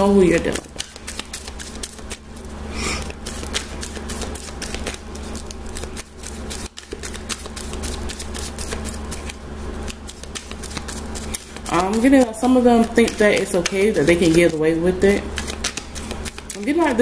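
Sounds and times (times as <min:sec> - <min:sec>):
cards being shuffled: 0:00.3 - 0:17.0.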